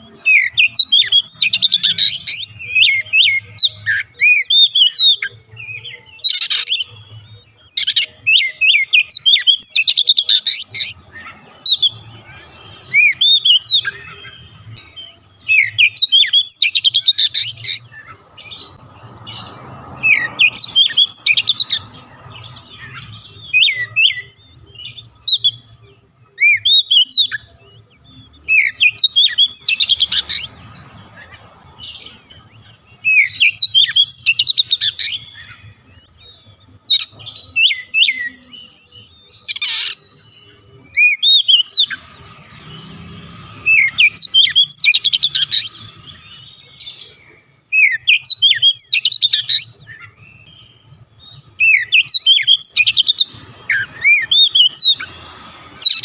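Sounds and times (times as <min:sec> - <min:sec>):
bird singing whistles and trills: 0:00.0 - 0:56.0.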